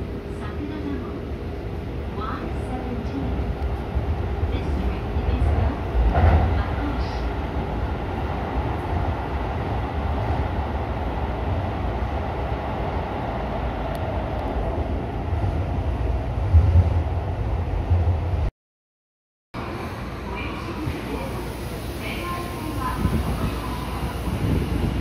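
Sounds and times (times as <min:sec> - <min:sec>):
subway train running: 0:00.0 - 0:18.5, 0:19.6 - 0:25.0.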